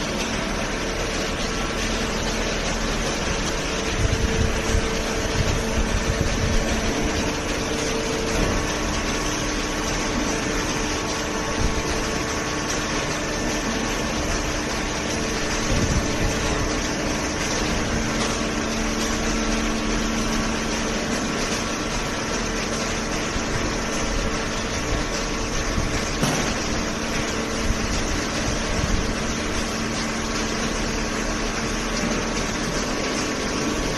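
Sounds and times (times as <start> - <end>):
baler machine hum: 0.0 - 33.9.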